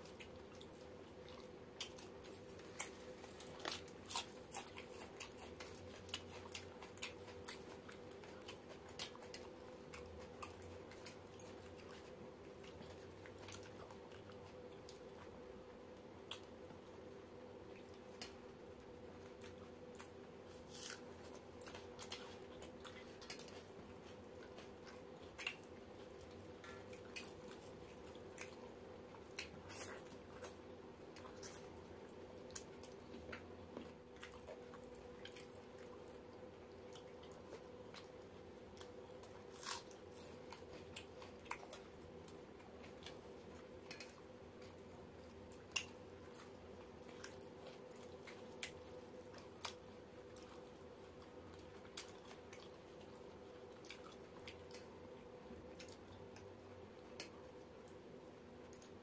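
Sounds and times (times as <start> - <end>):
chewing and smacking: 0.0 - 59.0
steady low hum: 0.0 - 59.0.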